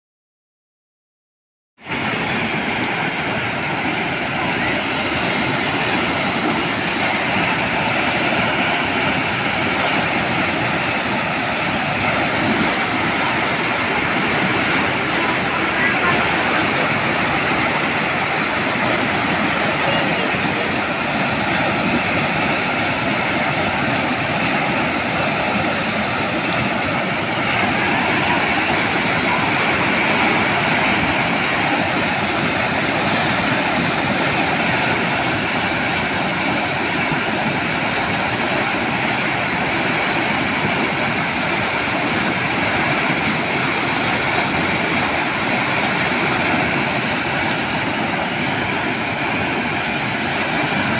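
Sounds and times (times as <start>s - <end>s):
floodwater rushing through rapids: 1.8s - 50.9s.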